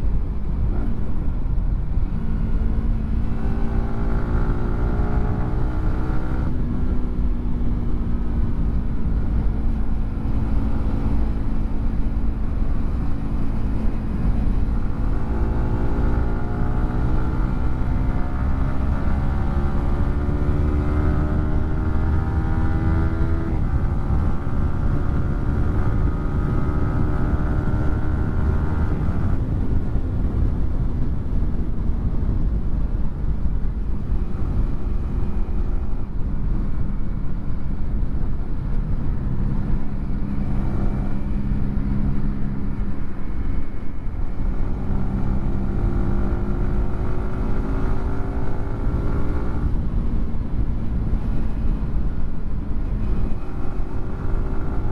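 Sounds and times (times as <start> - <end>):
wind noise: 0.0 - 54.9.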